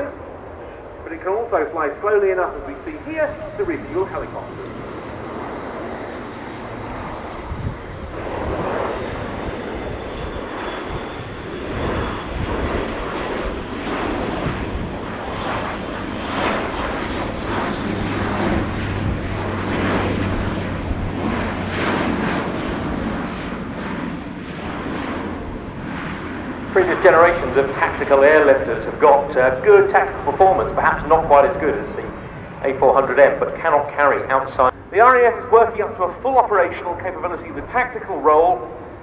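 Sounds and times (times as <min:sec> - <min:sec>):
turboprop aircraft flying past: 0:00.0 - 0:39.0.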